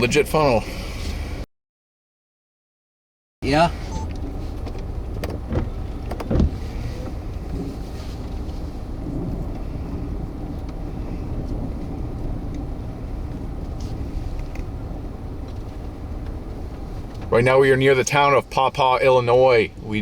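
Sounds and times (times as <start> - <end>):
vehicle rumble: 0.0 - 1.5, 3.4 - 20.0.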